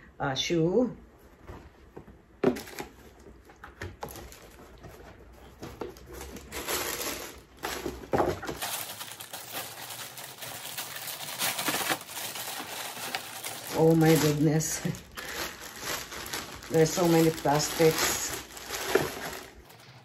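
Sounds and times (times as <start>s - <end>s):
packaging rustling and crinkling: 2.4s - 20.0s
plastic wrapping crinkling: 2.4s - 20.0s.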